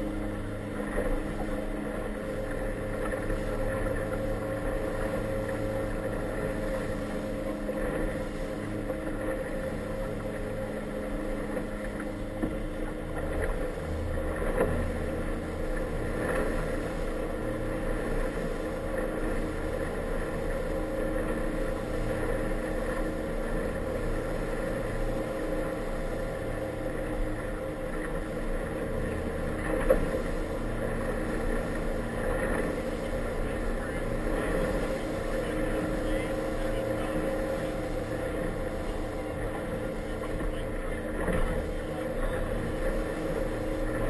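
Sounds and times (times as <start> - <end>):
choppy water against hull: 0.0 - 44.0
outboard motor running: 0.0 - 44.0.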